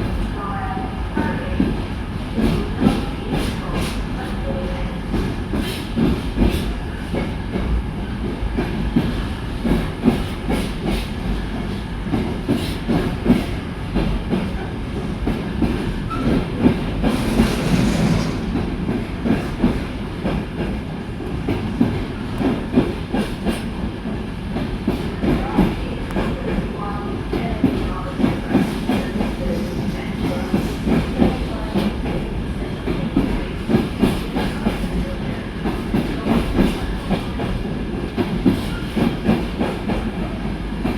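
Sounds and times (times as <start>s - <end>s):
train rumble: 0.0s - 40.9s.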